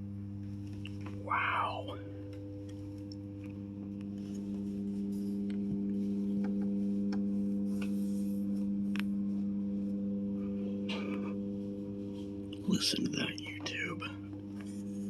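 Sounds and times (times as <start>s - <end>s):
electronic keyboard low buzz: 0.0s - 15.0s.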